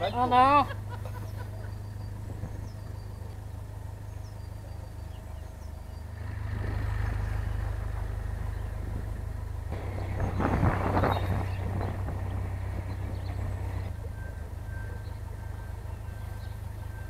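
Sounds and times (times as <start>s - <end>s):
boat diesel engine humming: 0.0s - 17.0s.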